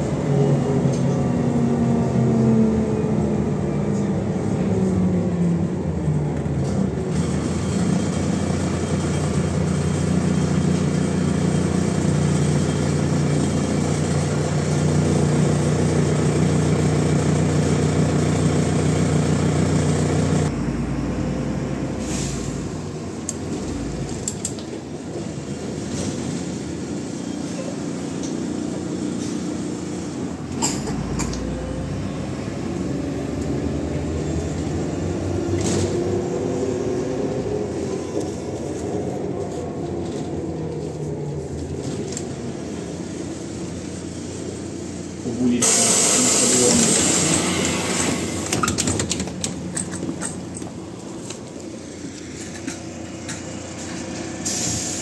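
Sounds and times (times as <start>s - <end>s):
bus engine and drivetrain hum: 0.0s - 55.0s.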